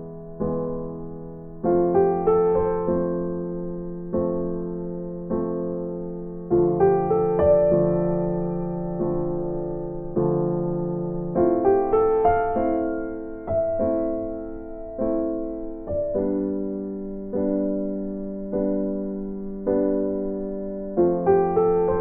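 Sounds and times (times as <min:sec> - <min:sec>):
slow electric piano chords: 0:00.0 - 0:22.0.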